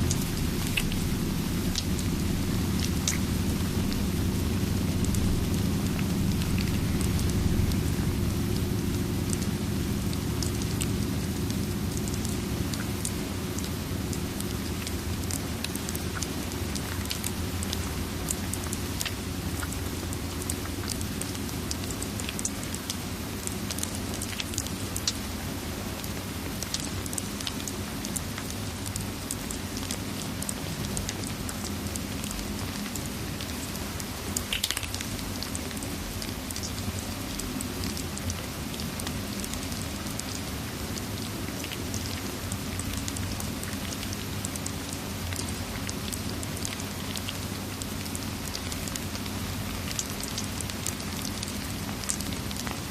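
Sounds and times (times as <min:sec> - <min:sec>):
crackling fireplace: 0:00.0 - 0:52.9
steady rain: 0:00.0 - 0:52.9.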